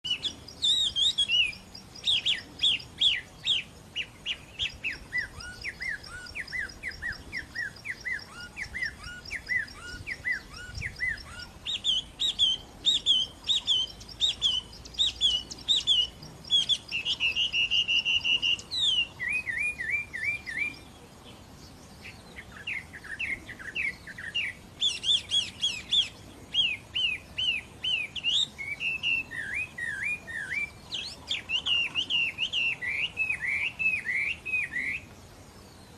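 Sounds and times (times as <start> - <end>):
bird trill: 0.0 - 35.9
faint high twittering: 0.0 - 35.9
songbird chirping: 0.0 - 35.9.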